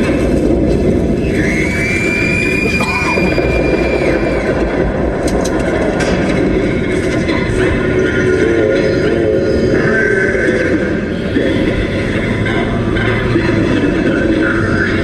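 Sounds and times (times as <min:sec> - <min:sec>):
high steady whine: 0:00.0 - 0:15.0.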